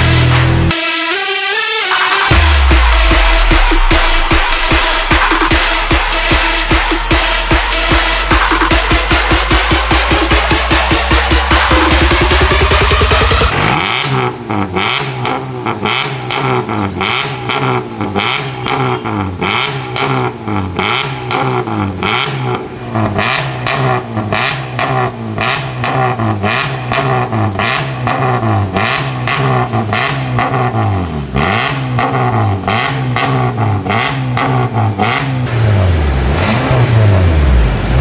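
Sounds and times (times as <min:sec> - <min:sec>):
car engine revving: 0:00.0 - 0:00.9, 0:01.9 - 0:38.0.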